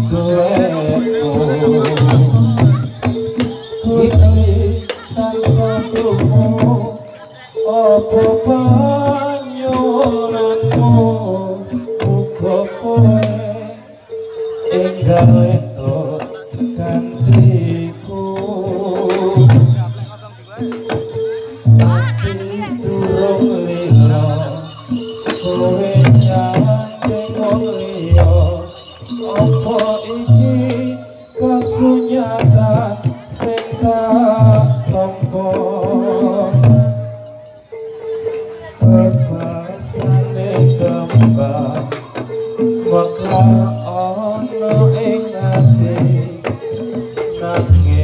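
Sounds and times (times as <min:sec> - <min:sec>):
person singing: 0:00.0 - 0:20.0, 0:20.9 - 0:37.3, 0:37.9 - 0:48.0
long held melodic tones: 0:00.0 - 0:48.0.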